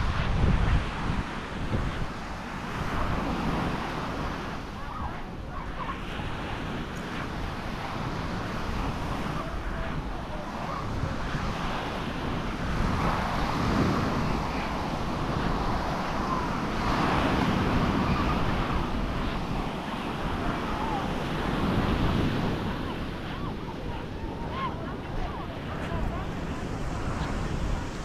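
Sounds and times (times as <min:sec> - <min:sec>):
waves washing onto beach: 0:00.0 - 0:28.0
wind buffeting microphone: 0:00.0 - 0:28.0.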